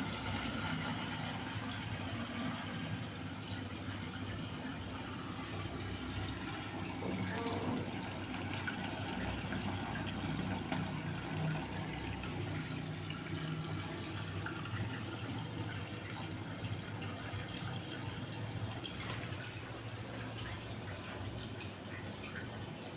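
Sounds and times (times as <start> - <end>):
water splashing in washing machine: 0.0 - 22.9.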